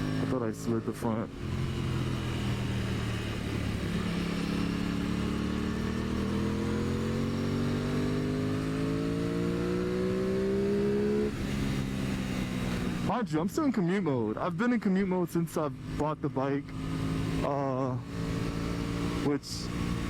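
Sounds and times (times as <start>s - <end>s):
motorcycle engine revving: 0.0s - 13.1s, 15.8s - 20.0s.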